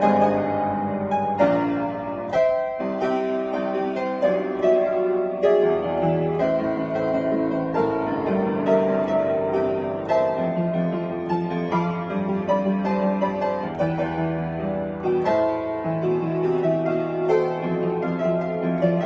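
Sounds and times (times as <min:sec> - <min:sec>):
solo piano melody: 0:00.0 - 0:19.0.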